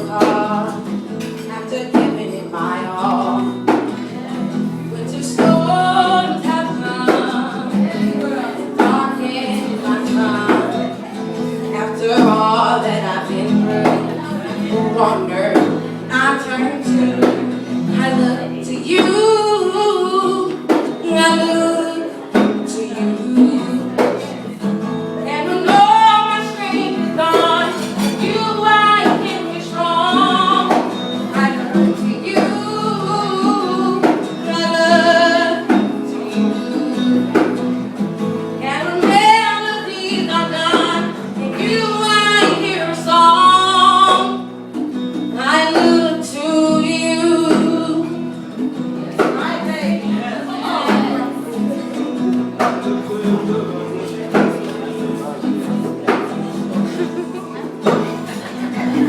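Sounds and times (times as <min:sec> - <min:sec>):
instrumental accompaniment: 0:00.0 - 0:59.0.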